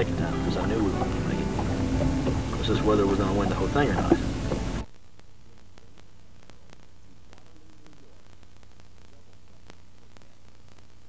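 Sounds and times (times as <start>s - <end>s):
tape hiss and hum: 0.0s - 11.0s.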